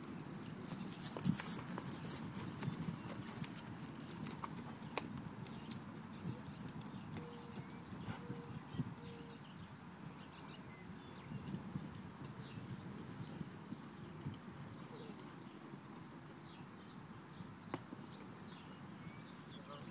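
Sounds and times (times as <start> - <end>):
hoofbeats on loose dirt: 0.0 - 16.6.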